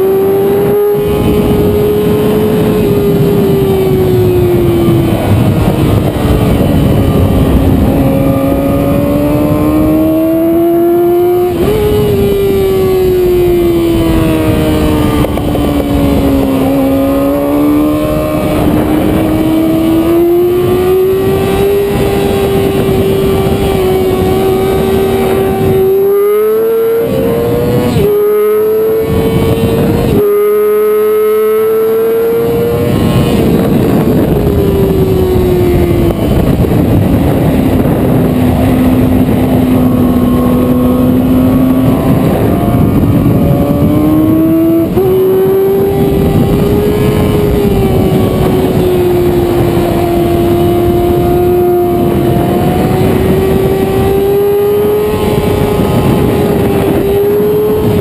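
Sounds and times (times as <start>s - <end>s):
gear changes: 0.0s - 58.0s
motorcycle engine revving: 0.0s - 58.0s
wind rush: 0.0s - 58.0s.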